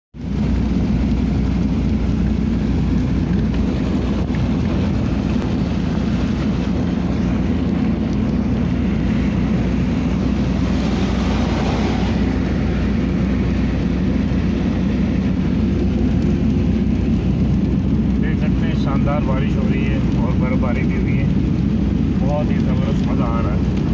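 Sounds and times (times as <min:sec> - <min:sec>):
rain on car body: 0:00.2 - 0:23.9
tyre and road noise: 0:00.2 - 0:23.9.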